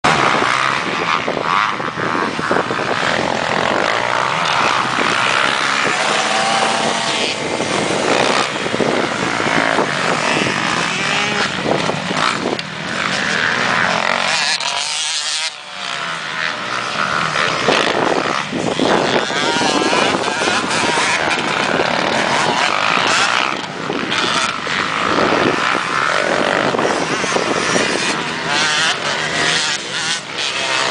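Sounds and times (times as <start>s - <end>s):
motorbike engine revving: 0.0s - 30.9s.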